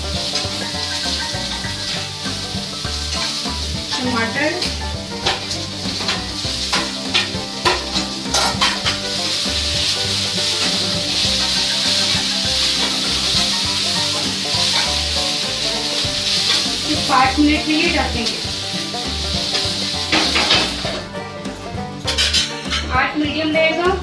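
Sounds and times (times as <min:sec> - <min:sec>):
spatula clicking and scraping pan: 0:00.0 - 0:23.0
food sizzling in oil: 0:00.0 - 0:24.0.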